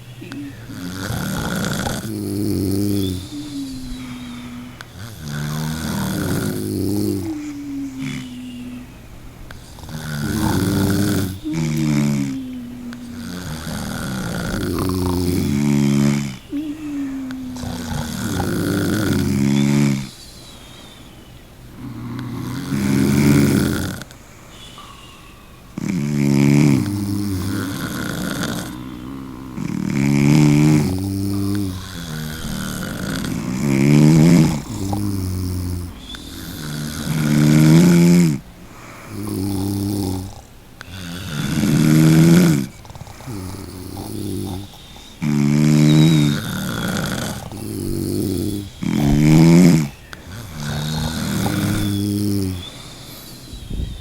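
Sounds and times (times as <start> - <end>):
loud snoring: 0.0 - 20.4, 21.6 - 24.7, 25.7 - 54.0
quiet breathing: 0.0 - 54.0.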